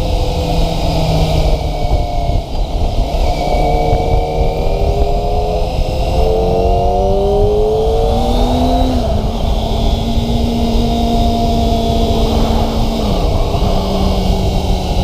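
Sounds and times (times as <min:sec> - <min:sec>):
low wind rush: 0:00.0 - 0:15.0
motorcycle engine pulling: 0:00.1 - 0:15.0.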